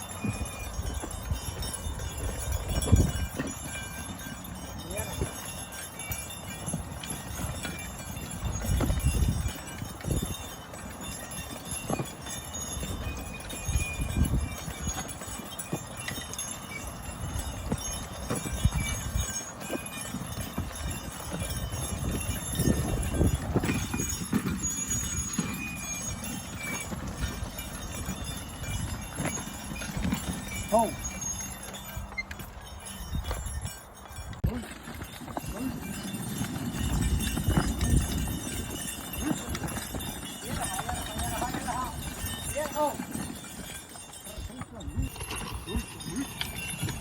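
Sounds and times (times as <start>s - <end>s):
horse hooves thudding: 0.0s - 47.0s.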